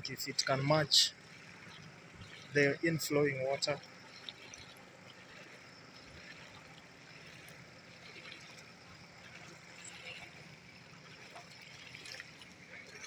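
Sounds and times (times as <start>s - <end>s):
floodwater streaming and trickling: 0.0s - 13.0s.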